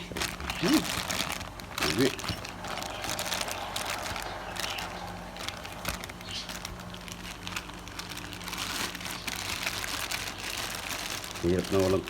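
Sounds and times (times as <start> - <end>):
small clicks and crackles: 0.0 - 4.8, 5.8 - 12.0
electric fan humming: 0.0 - 12.0
packaging rustling and crinkling: 0.0 - 12.0.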